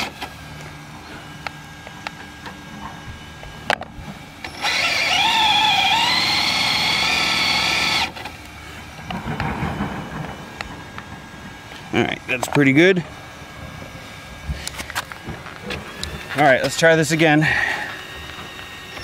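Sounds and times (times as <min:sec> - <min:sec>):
electric motor whining: 0:00.0 - 0:11.9, 0:12.6 - 0:19.0.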